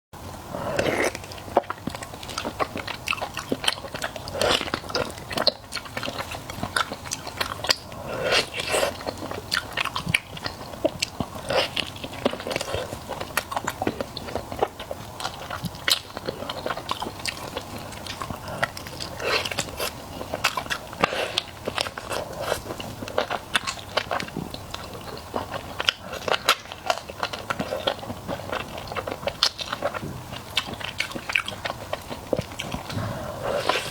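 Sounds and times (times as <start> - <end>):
chewing and crunching food: 0.3 - 33.9.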